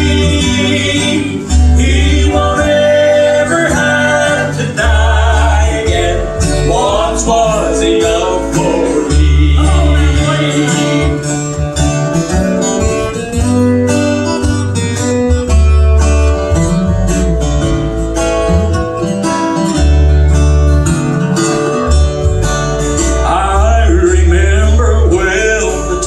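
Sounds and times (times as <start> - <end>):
bass line: 0.0 - 26.0
strummed acoustic guitar: 0.0 - 26.0.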